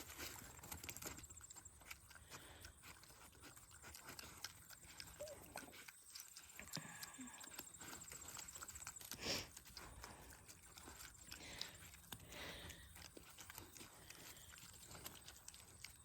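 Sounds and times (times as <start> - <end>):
pigs munching: 0.0 - 16.0.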